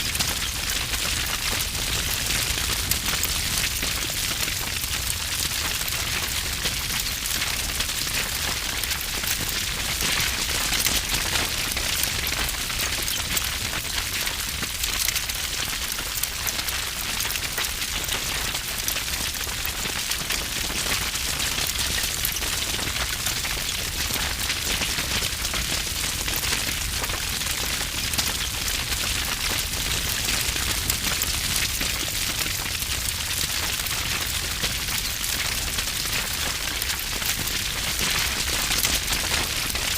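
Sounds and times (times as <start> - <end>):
low rumble of flame: 0.0 - 39.9
wood fire crackling: 0.0 - 39.9.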